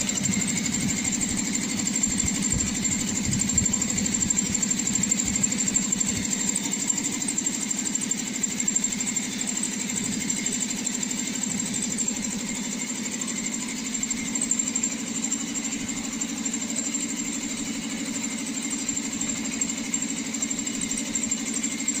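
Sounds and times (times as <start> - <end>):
compressor pump pulsing: 0.0 - 22.0.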